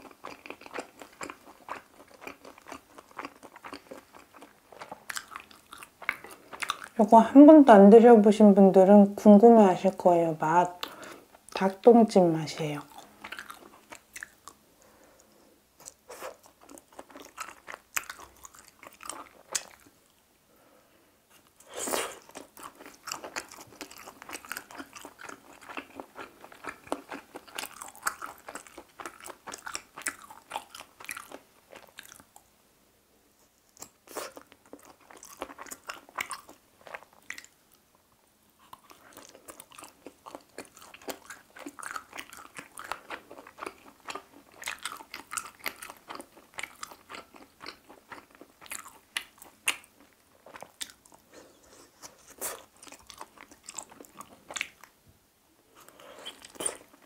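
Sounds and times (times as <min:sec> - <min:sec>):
person chewing: 0:00.0 - 0:07.0, 0:12.8 - 0:14.6, 0:15.2 - 0:20.0, 0:21.3 - 0:32.4, 0:33.7 - 0:37.6, 0:38.6 - 0:55.0, 0:55.7 - 0:57.0.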